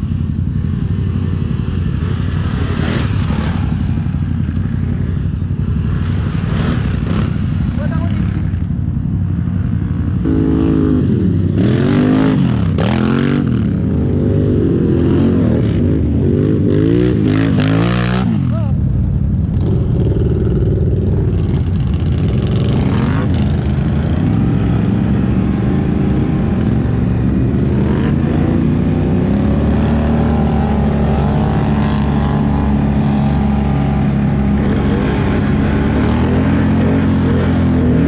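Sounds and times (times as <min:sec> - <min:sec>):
atv engine running hard: 0:00.0 - 0:38.0.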